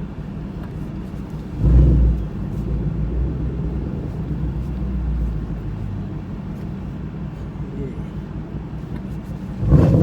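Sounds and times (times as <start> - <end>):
exhaust rumbling: 0.0 - 10.0.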